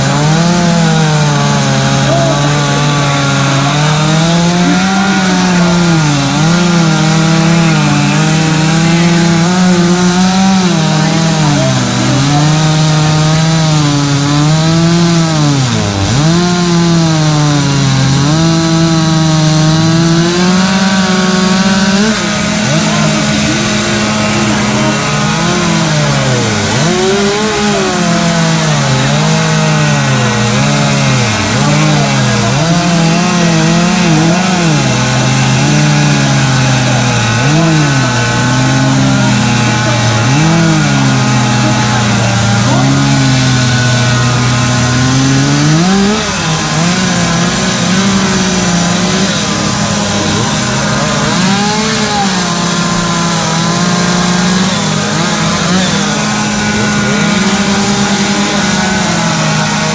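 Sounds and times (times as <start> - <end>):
chainsaw at steady high speed: 0.0 - 59.9
chainsaws revving cutting wood: 0.0 - 59.9.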